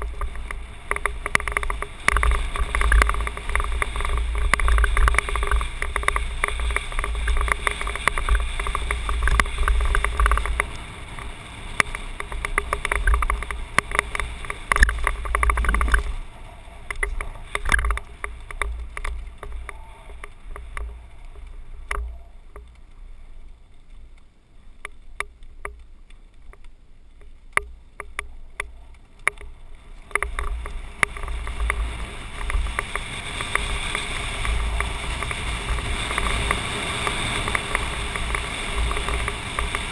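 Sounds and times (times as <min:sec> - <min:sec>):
wind buffeting microphone: 0:00.0 - 0:23.3, 0:28.2 - 0:39.9
bike rattling: 0:00.0 - 0:39.9
scattered clicks and rattles: 0:00.0 - 0:39.9
tyres rolling over gravel: 0:00.0 - 0:39.9.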